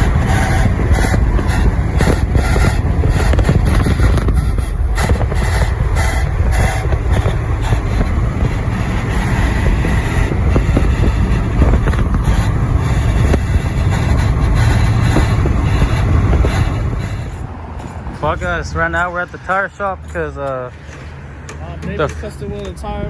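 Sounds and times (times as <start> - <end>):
heavy low rumble: 0.0 - 23.0
road and wind noise: 0.0 - 23.0.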